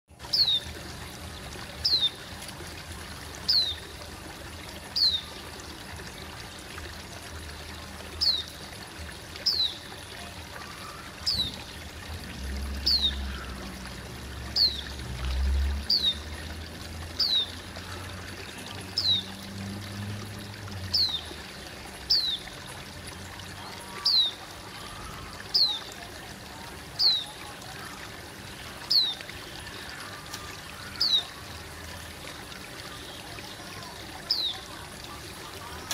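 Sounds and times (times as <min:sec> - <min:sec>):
aquarium water bubbling: 0:00.1 - 0:35.9.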